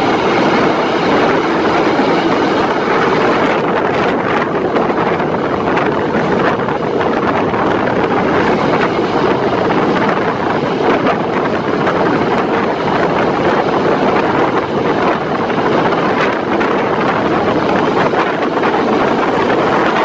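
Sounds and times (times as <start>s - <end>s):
train rushing rumble: 0.0s - 20.0s.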